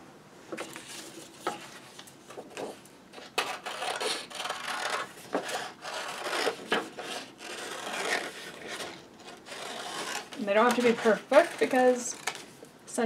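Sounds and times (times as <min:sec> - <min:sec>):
paper rustling: 0:00.6 - 0:12.6.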